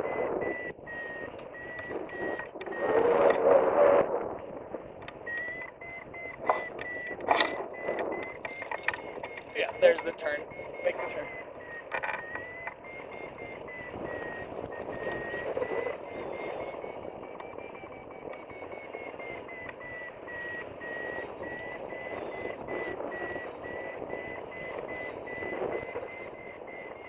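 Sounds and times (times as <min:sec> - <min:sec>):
high steady beeping: 0:00.0 - 0:27.0
wind noise on microphone: 0:00.0 - 0:27.0.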